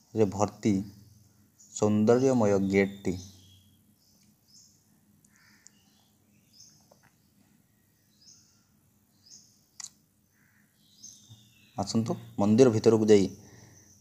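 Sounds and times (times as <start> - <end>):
small birds chirping faintly: 0.0 - 14.0.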